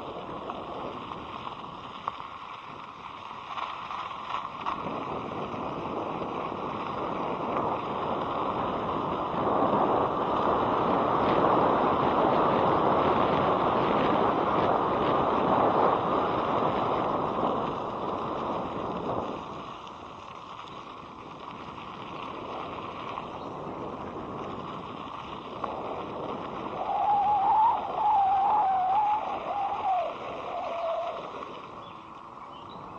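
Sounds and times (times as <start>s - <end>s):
road noise: 0.0s - 32.9s
wind rushing over microphone: 0.0s - 32.9s.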